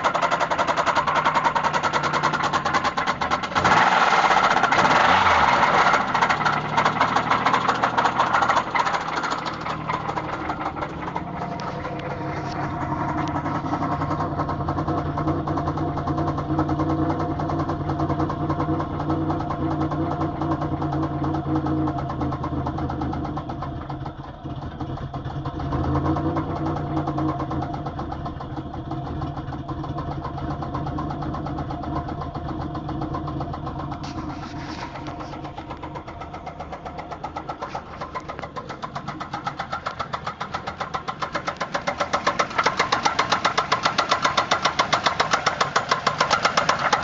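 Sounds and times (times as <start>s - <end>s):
engine running with rhythmic knock: 0.0s - 47.0s.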